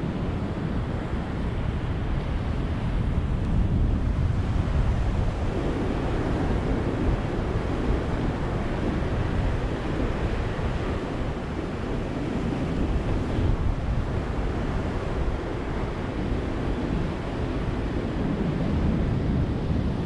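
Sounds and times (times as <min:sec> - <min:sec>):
ocean waves washing ashore: 0:00.0 - 0:20.0.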